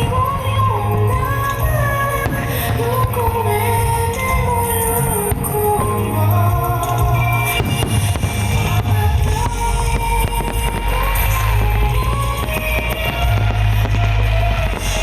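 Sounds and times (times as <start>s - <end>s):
deep low rumble: 0.0s - 15.0s
fireworks bursting and crackling: 0.0s - 15.0s
song with singing: 0.0s - 15.0s.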